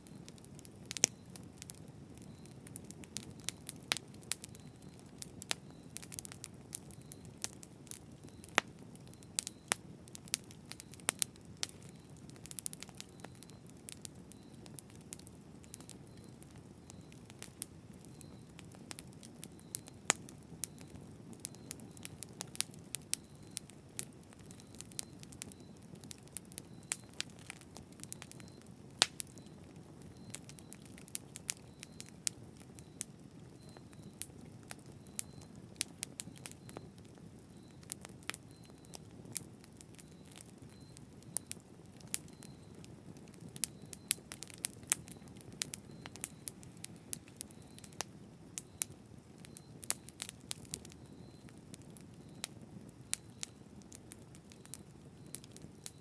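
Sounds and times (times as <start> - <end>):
burning wood crackling and popping: 0.0 - 56.0.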